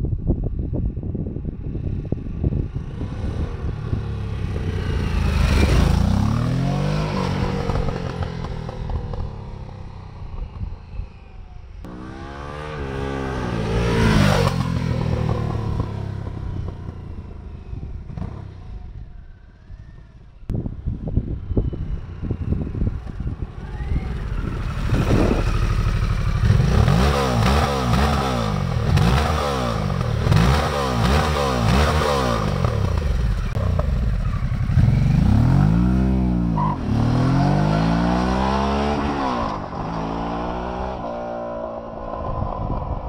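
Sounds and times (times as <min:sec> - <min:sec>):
motorcycle accelerating: 0:01.4 - 0:43.0
motorcycle engine revving: 0:02.6 - 0:10.8, 0:11.8 - 0:19.1, 0:20.8 - 0:43.0.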